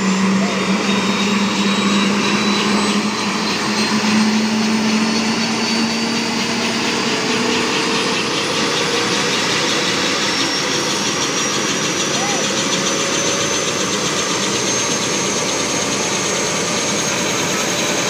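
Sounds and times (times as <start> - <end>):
helicopter turbine whine: 0.0 - 18.0
thin whine rising in pitch: 0.0 - 18.0.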